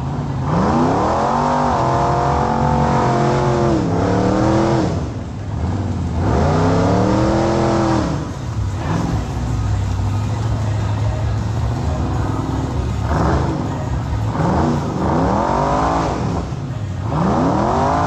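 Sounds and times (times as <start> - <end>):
engine revving hard: 0.0 - 10.2, 11.7 - 18.0.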